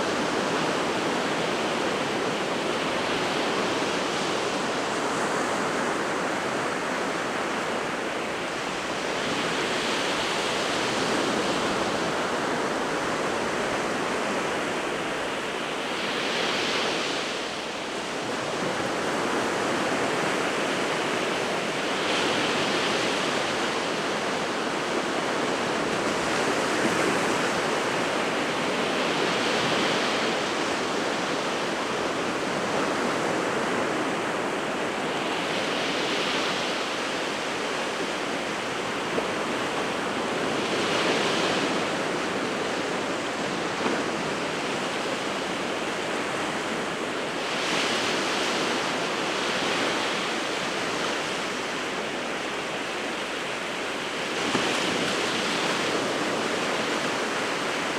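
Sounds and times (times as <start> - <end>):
waves breaking on shore: 0.0 - 57.9.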